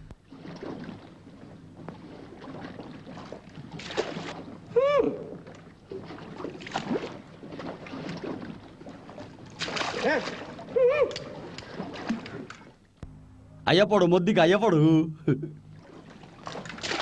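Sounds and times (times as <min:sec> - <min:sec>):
oar splashing in water: 0:00.0 - 0:13.0, 0:15.7 - 0:17.0.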